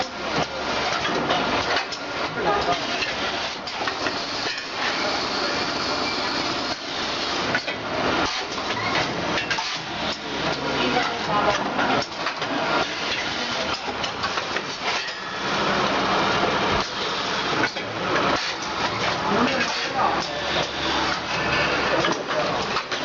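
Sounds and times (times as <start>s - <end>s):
packaging machinery hissing and clattering: 0.2s - 23.0s.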